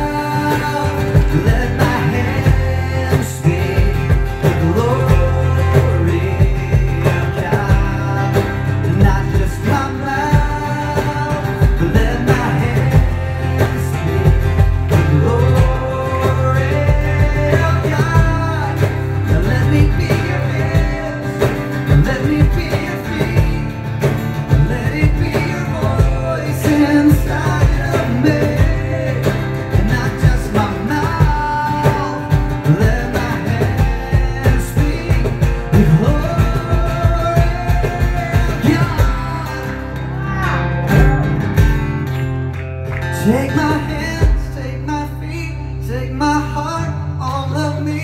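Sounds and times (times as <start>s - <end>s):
man singing into microphone: 0.0s - 41.5s, 43.2s - 48.0s
strummed acoustic guitar: 0.0s - 48.0s.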